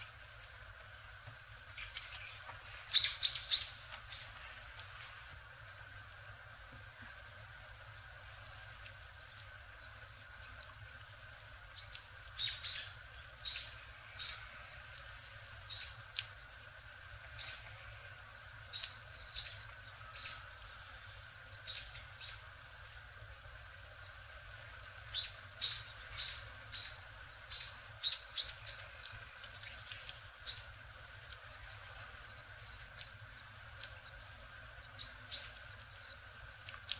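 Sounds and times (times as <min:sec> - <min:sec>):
songbirds chirping: 0:00.0 - 0:36.9.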